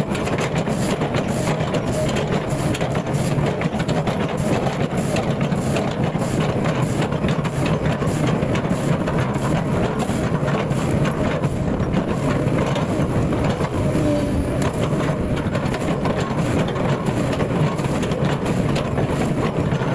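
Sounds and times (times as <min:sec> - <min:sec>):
diesel engine running under load: 0:00.0 - 0:19.9.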